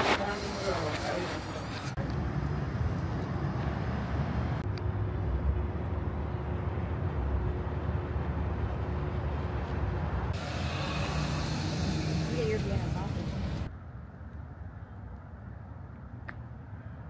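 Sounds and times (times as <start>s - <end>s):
vehicle low rumble: 0.2s - 17.0s.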